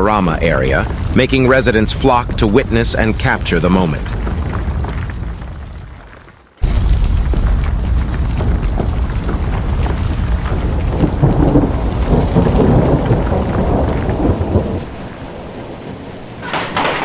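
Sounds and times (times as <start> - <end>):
deep thunder rumble: 0.0 - 17.0
rain and hail hissing: 0.0 - 17.0.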